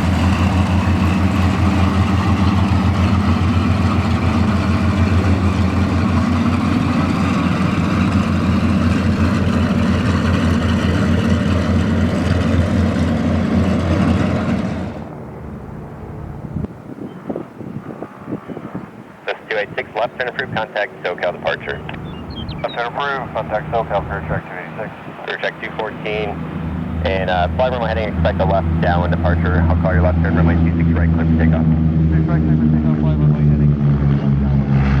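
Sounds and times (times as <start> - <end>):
aircraft engines running: 0.0 - 35.0.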